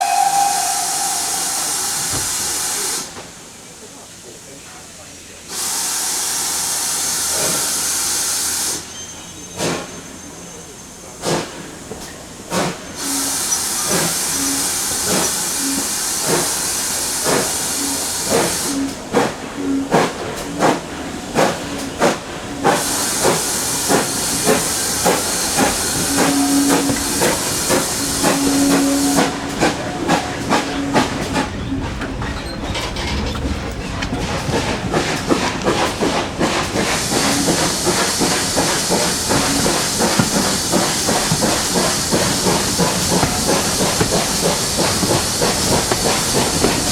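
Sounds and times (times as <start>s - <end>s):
steam hissing: 0.0s - 46.9s
steam locomotive chuffing: 0.0s - 46.9s.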